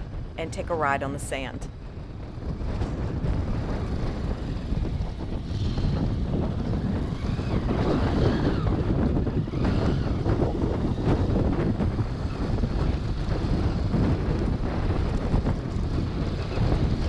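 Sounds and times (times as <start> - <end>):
wind buffeting microphone: 1.6 - 17.0.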